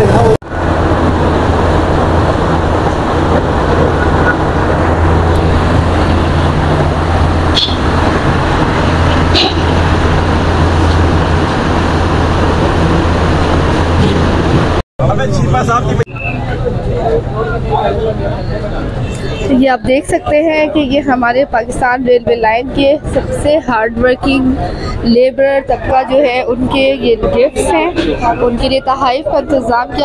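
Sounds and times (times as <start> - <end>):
rumbling background noise: 0.0 - 30.0.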